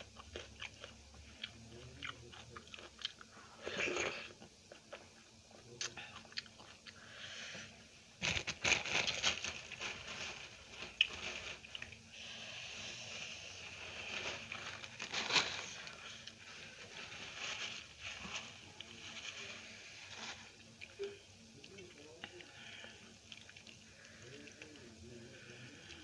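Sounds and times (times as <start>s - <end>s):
person chewing and crunching food: 0.0s - 7.2s, 8.2s - 26.0s.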